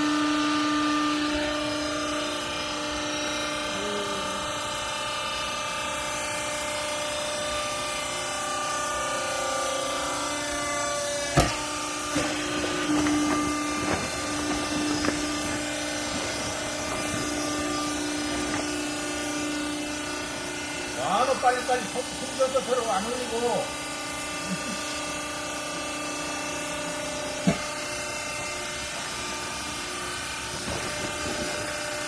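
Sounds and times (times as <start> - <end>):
baler machine hum: 0.0 - 32.0.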